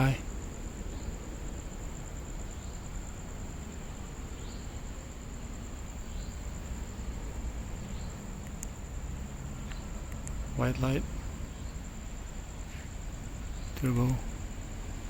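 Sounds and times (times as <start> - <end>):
insects trilling: 0.0 - 15.0
low outdoor rumble: 0.0 - 15.0.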